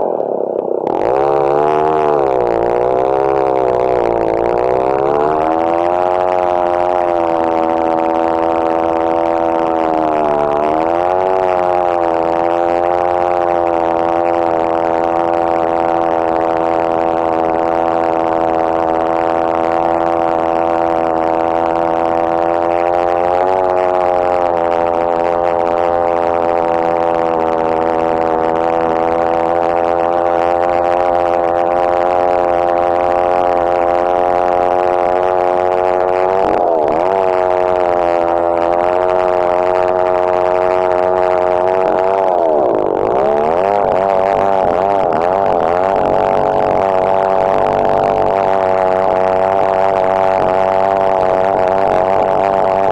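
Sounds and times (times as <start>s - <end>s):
chainsaw cutting log: 0.0s - 52.9s.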